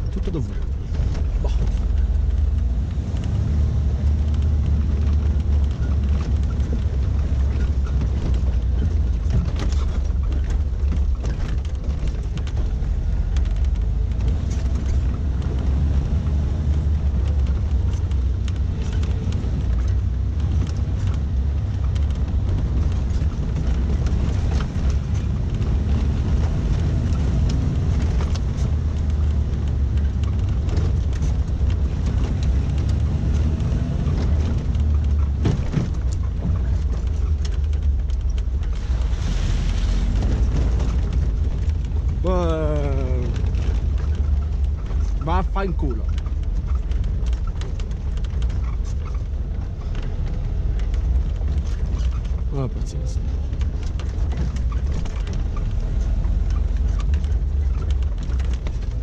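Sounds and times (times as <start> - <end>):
car engine droning: 0.0 - 59.0
clicks and knocks from rattling body: 0.0 - 59.0.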